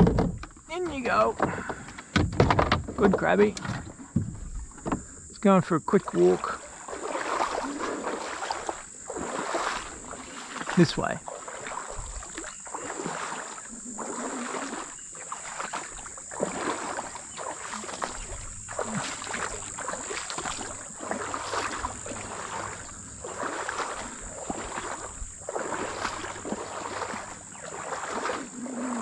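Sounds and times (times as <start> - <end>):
footsteps wading through water: 0.9 - 29.0.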